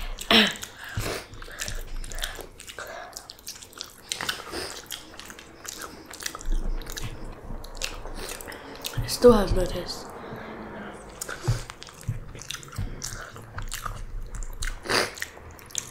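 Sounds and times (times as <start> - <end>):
person chewing food: 0.0 - 9.3, 10.0 - 15.9.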